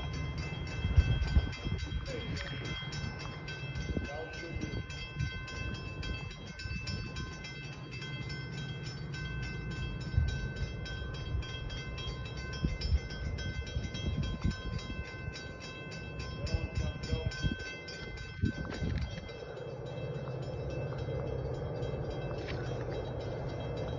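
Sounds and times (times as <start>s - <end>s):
high ringing tones: 0.0s - 23.9s
train rumbling: 0.0s - 23.9s.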